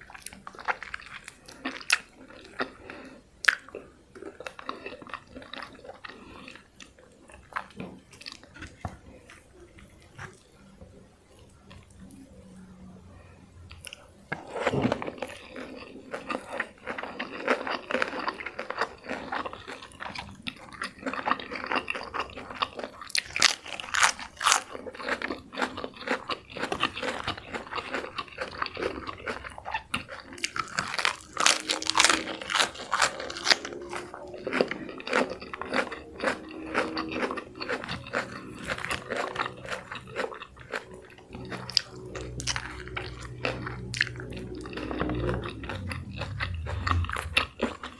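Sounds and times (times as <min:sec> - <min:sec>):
wet chewing: 0:00.0 - 0:12.4, 0:13.7 - 0:47.9
crunching fried chicken: 0:00.0 - 0:12.5, 0:13.7 - 0:47.9.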